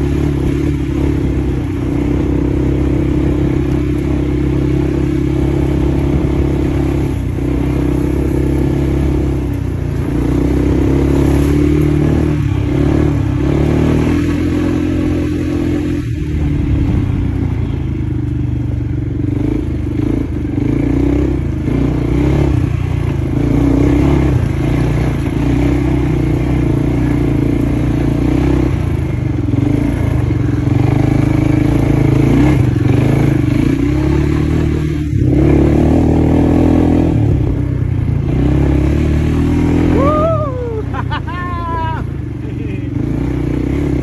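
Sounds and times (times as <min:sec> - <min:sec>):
quad bike engine running: 0:00.0 - 0:44.0.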